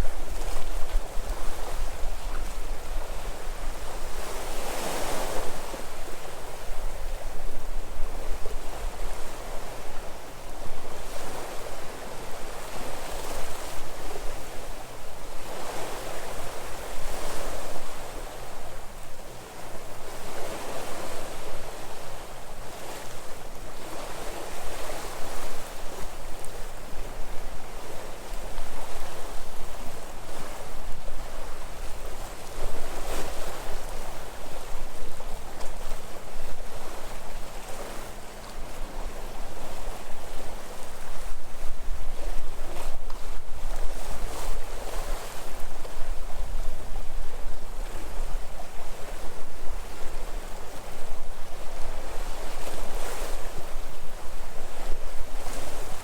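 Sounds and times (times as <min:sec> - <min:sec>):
sea waves breaking: 0:00.0 - 0:10.2, 0:11.0 - 0:56.0
wind rumble on microphone: 0:00.0 - 0:56.0.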